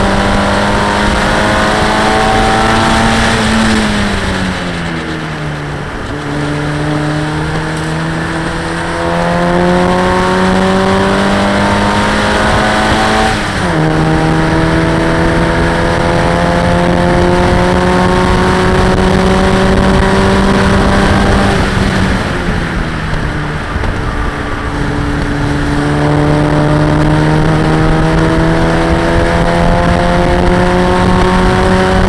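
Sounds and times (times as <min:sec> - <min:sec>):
race car engine at full load: 0:00.0 - 0:32.0
wind rush: 0:00.0 - 0:32.0.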